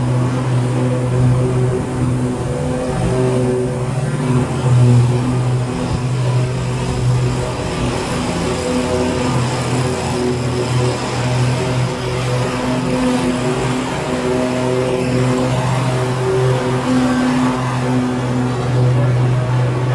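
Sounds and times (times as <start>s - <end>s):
mower engine hum: 0.0s - 19.9s.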